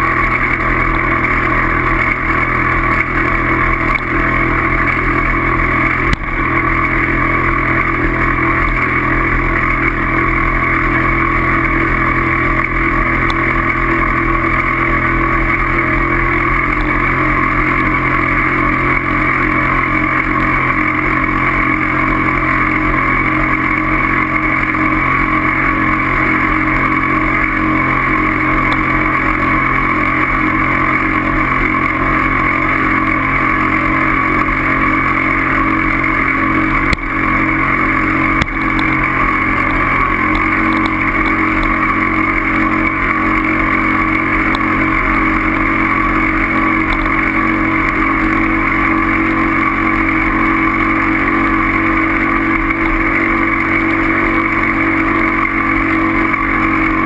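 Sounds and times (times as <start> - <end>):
bike riding drone: 0.0 - 57.0.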